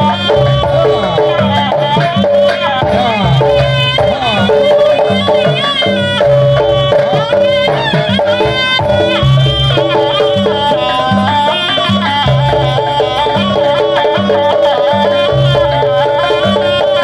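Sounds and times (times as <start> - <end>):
repeating low drum pattern: 0.0 - 17.0
steady held tone: 0.0 - 17.0
wavering lead melody: 0.0 - 17.0.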